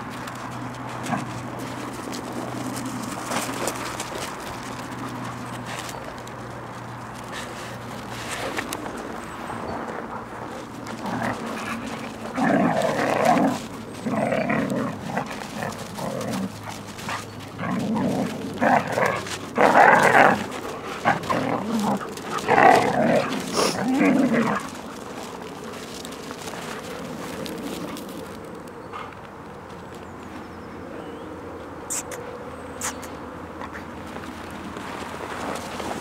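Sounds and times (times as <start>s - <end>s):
dogs play-fighting vocalizing: 0.0s - 29.4s.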